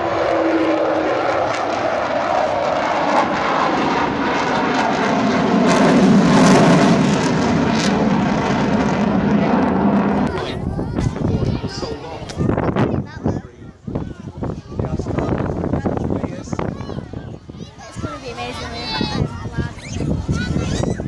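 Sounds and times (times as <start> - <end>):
jet plane flying overhead: 0.0 - 21.0.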